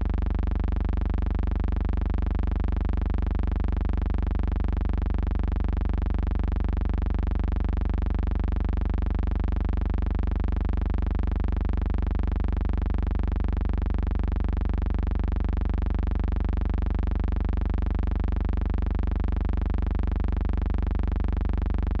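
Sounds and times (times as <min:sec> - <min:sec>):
low electrical buzz: 0:00.0 - 0:22.0.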